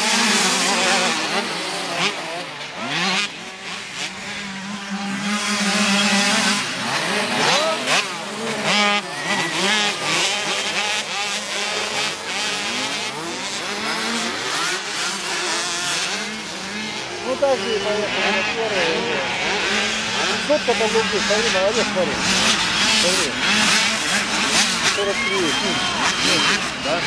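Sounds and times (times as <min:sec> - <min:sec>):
motocross bikes racing: 0:00.0 - 0:27.0.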